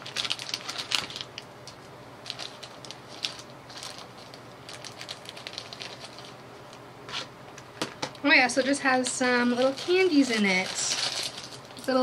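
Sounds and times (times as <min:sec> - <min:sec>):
plastic bag crackling: 0:00.0 - 0:06.8, 0:08.5 - 0:12.0.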